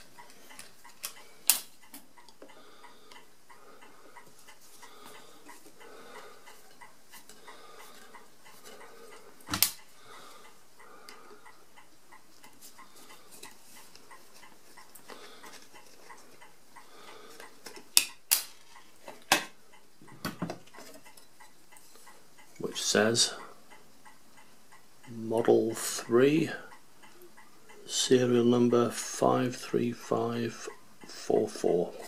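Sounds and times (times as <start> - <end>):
faint regular ticking: 0.0 - 32.0.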